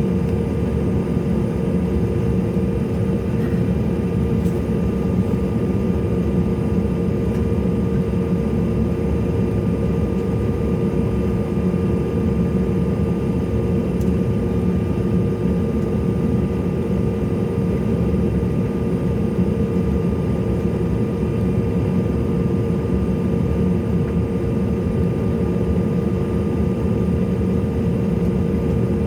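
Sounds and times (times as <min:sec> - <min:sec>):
jet engine cabin rumble and whine: 0:00.0 - 0:29.0.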